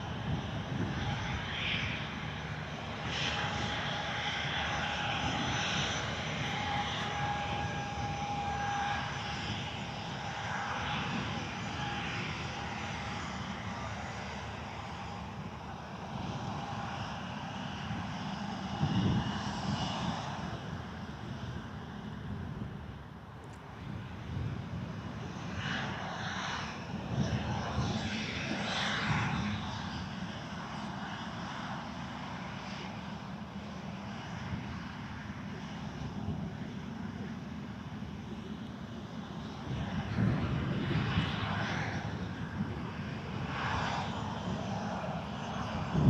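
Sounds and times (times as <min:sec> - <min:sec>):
propeller plane droning by: 0:00.0 - 0:46.0.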